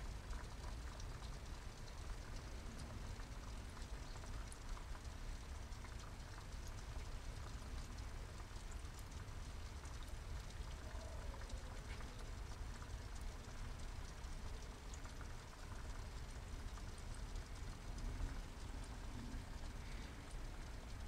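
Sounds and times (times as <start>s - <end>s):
water trickling into pond: 0.0s - 21.0s.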